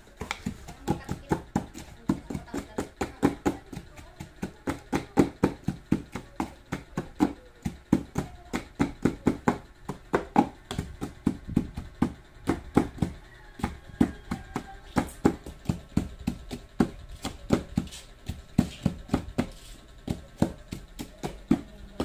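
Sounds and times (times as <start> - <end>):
pestle pounding in mortar: 0.0 - 22.0.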